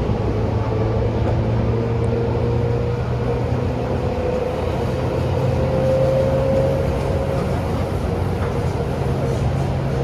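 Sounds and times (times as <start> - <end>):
wheels rumbling on rails: 0.0 - 10.0.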